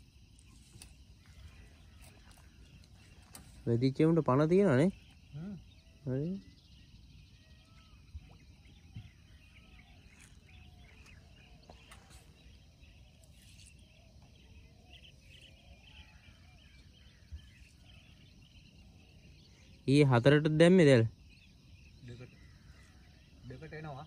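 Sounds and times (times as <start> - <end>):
insect chirping: 0.0 - 24.0
faint bird calls: 0.3 - 24.0.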